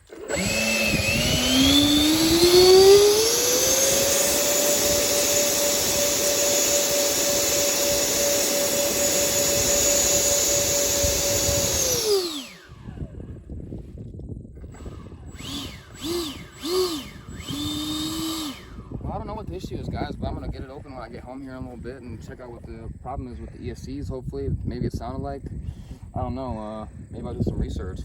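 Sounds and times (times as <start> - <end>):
electric ducted fans whining: 0.0 - 13.6, 14.5 - 23.6.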